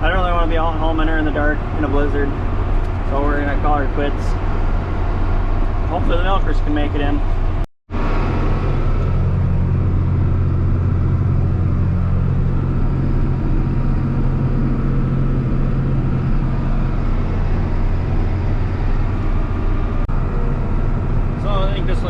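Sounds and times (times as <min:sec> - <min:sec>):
driving noise: 0:00.0 - 0:22.0
tractor engine running: 0:00.0 - 0:22.0.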